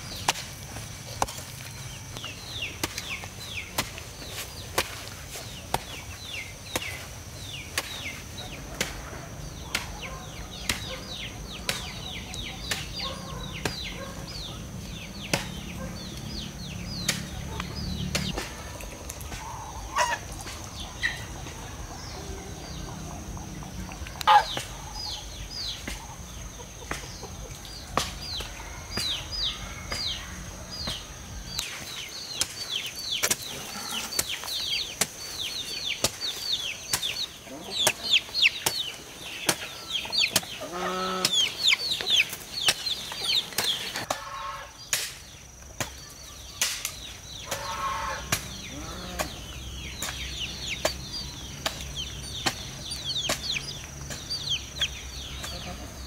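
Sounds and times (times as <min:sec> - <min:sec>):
chicks peeping: 0:01.2 - 0:56.0.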